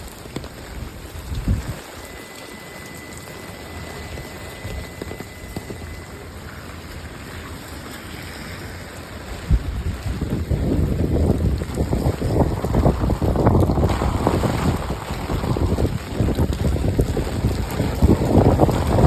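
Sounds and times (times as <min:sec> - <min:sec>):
steady rain: 0:00.0 - 0:19.0
wind buffeting microphone: 0:00.0 - 0:19.0
low rumbling: 0:02.7 - 0:19.0.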